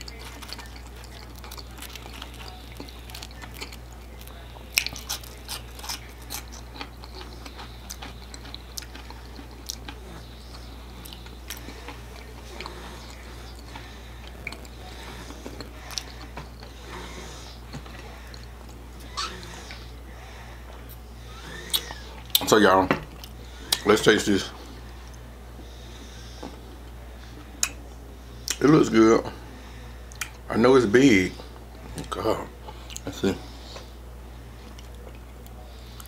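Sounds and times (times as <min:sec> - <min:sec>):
chewing french fries: 0:00.0 - 0:27.8, 0:28.4 - 0:28.9, 0:30.0 - 0:30.5, 0:31.3 - 0:34.0, 0:34.6 - 0:36.0
steady low hum: 0:00.0 - 0:36.0.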